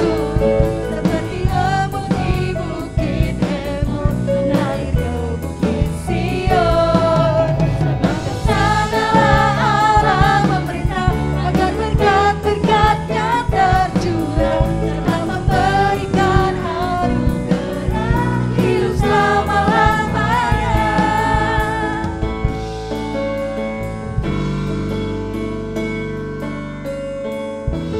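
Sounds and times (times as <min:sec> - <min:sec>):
voices singing: 0:00.0 - 0:22.6
drum kit: 0:00.0 - 0:27.9
worship band playing: 0:00.0 - 0:27.9.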